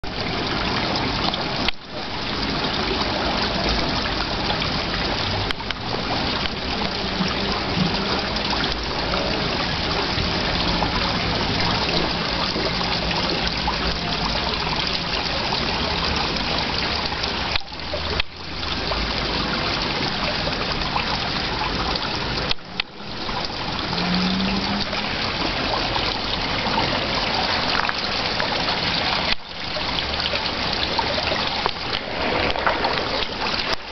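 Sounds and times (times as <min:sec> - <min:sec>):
trickling running water: 0:00.0 - 0:33.9.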